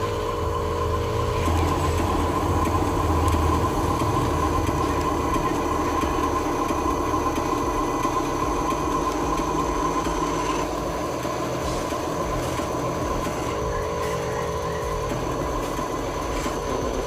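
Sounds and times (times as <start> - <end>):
electric motor whining: 0.0 - 17.0
gearbox grinding and rasping: 1.0 - 17.0.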